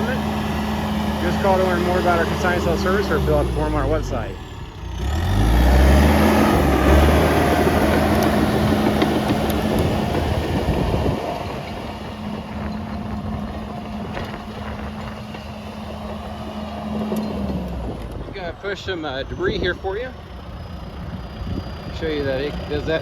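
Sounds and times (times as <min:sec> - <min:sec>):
diesel bulldozer engine running: 0:00.0 - 0:23.0.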